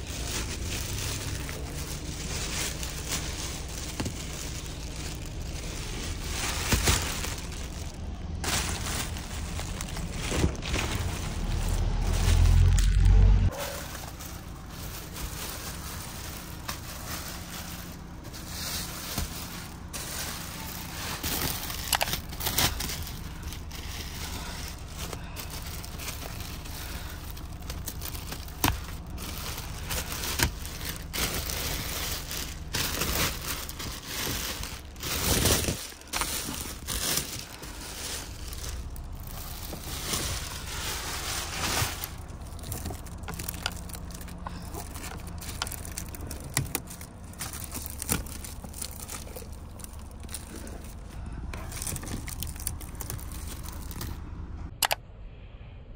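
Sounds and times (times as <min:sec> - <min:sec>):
plastic covers crinkling and tearing: 0:00.0 - 0:54.2.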